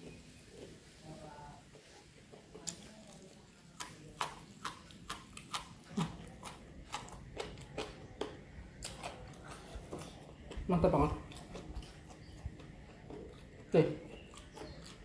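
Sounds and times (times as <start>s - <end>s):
crisp chewing crunches: 2.6s - 15.0s.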